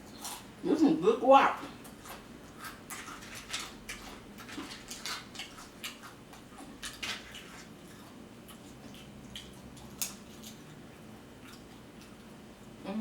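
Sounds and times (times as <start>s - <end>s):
chewing crunchy food: 0.0s - 0.5s, 1.6s - 12.8s.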